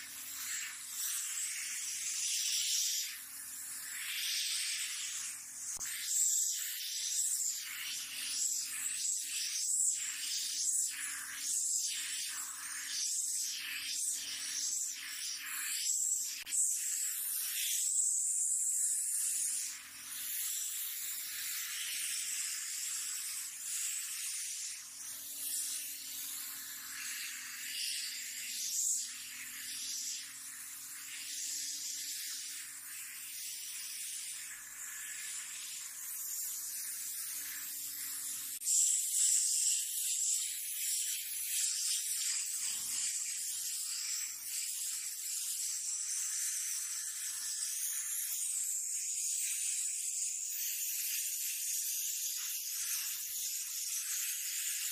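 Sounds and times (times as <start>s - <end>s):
paint spray gun hissing: 0.0s - 54.9s.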